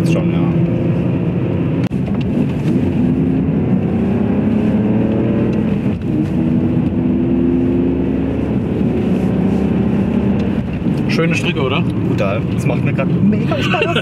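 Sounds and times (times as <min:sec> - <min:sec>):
car engine running: 0:00.0 - 0:14.0
tyre and road noise: 0:00.0 - 0:14.0.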